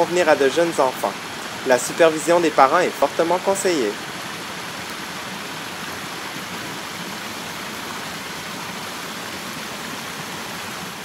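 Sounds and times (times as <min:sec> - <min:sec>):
waterfall over rocks: 0:00.0 - 0:11.0.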